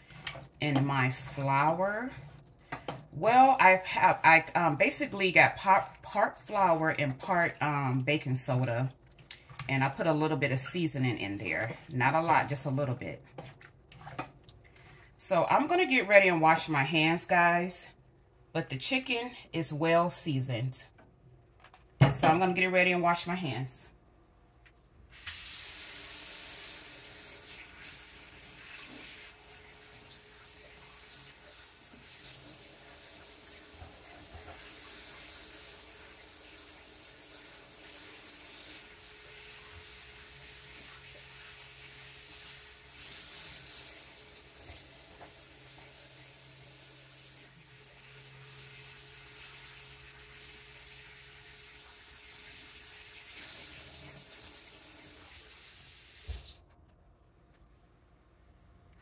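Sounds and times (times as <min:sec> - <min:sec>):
tap water running: 0:00.0 - 0:16.9, 0:25.1 - 0:56.7.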